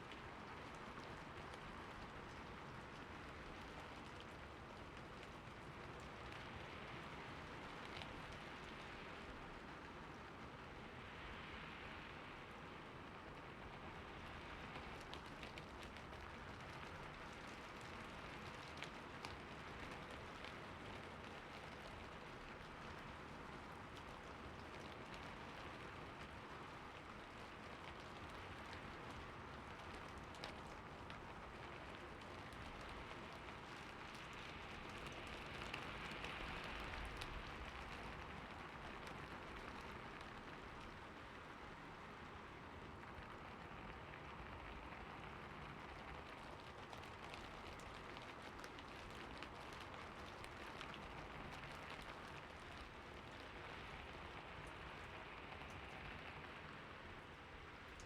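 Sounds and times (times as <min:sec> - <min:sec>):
soft steady rain: 0:00.0 - 0:58.0
raindrop ticks: 0:00.1 - 0:10.0, 0:13.4 - 0:58.0.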